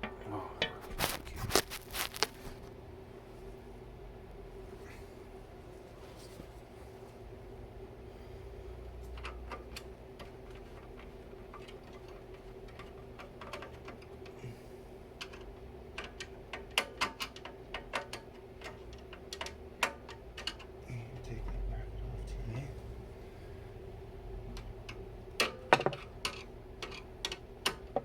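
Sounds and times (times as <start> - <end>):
steady low hum: 0.0 - 16.7, 18.4 - 28.0.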